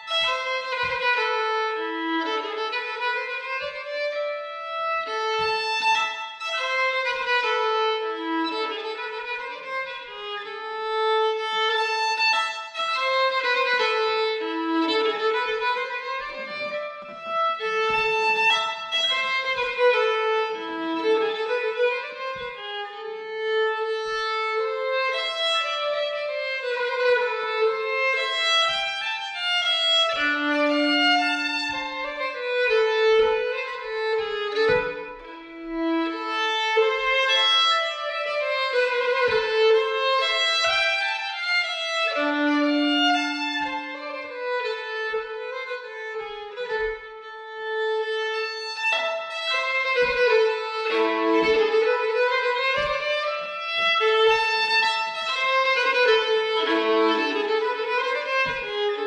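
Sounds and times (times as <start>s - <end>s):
solo violin melody: 0.0s - 59.0s.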